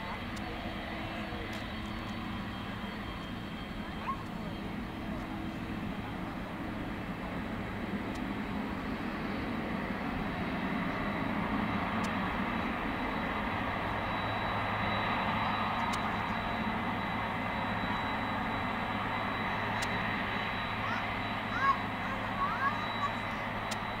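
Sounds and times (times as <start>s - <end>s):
high engine whine: 0.0s - 24.0s
jet engines rumbling: 0.0s - 24.0s.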